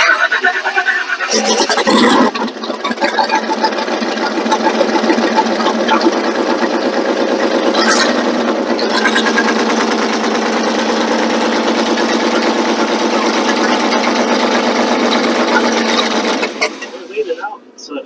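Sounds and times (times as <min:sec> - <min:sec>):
car engine running: 0:01.1 - 0:18.0.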